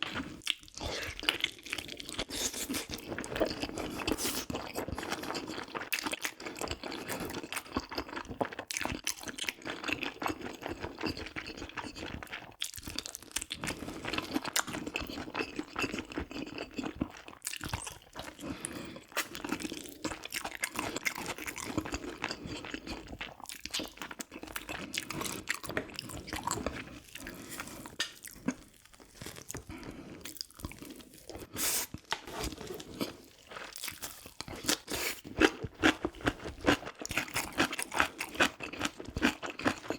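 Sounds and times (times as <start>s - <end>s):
person chewing and crunching: 0.0s - 39.9s.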